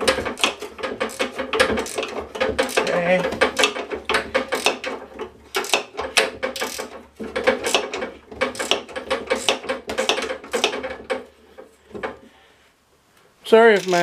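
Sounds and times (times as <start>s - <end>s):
ratcheting wrench clicking: 0.0s - 11.2s, 13.7s - 14.0s.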